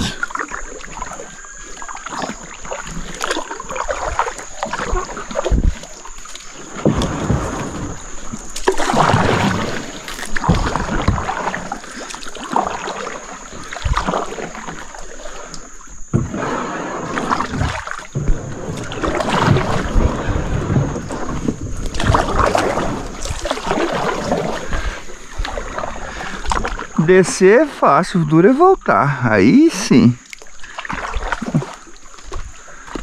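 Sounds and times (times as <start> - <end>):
paddle splashing water: 0.0 - 33.0.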